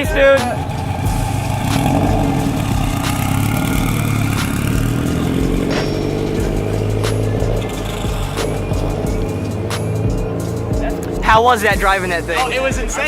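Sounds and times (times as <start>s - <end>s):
car engine rising in pitch: 0.0s - 13.0s.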